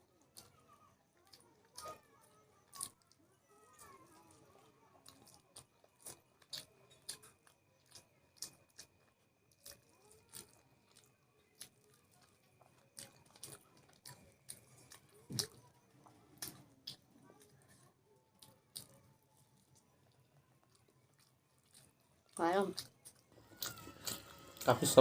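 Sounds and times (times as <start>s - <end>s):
person chewing food: 0.1s - 25.0s.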